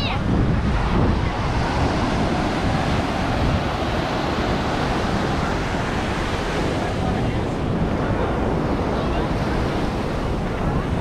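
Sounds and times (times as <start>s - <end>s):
ocean surf breaking: 0.0s - 11.0s
wind rumbling on microphone: 0.0s - 11.0s.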